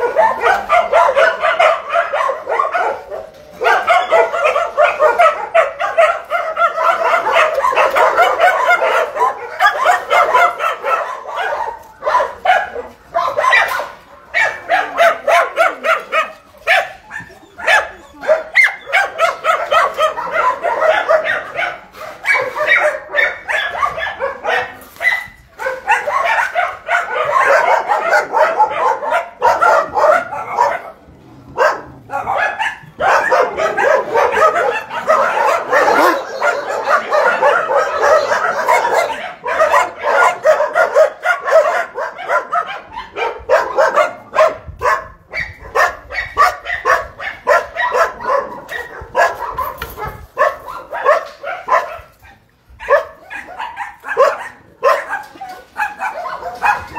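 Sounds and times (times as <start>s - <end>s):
dogs barking: 0.0s - 56.9s.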